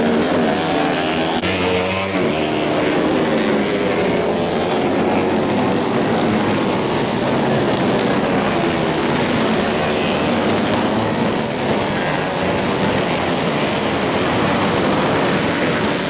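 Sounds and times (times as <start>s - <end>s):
racing motorcycles at high revs: 0.0s - 16.0s.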